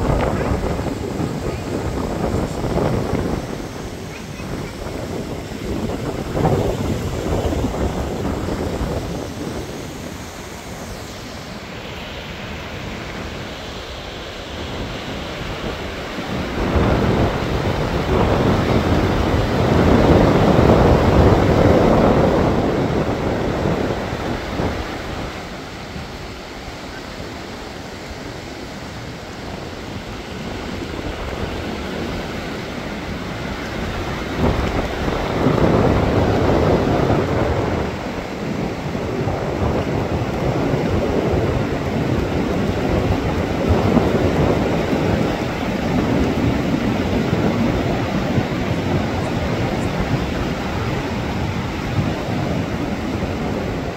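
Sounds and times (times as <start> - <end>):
river water rushing over rocks: 0.0 - 53.9
wind on microphone: 0.0 - 53.9.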